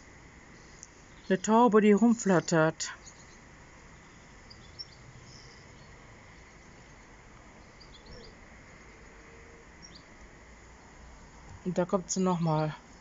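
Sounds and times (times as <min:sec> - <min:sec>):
distant bird chirps: 0:00.0 - 0:12.8
low outdoor hiss: 0:00.0 - 0:13.0.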